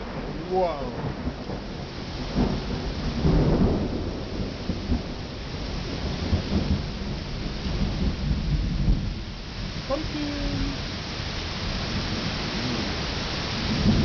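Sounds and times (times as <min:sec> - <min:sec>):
rain on foliage: 0:00.0 - 0:14.0
thunder rumbling: 0:00.0 - 0:14.0.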